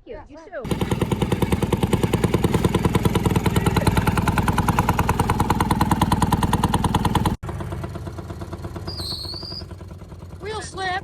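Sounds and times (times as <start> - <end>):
small engine running: 0.6 - 11.0.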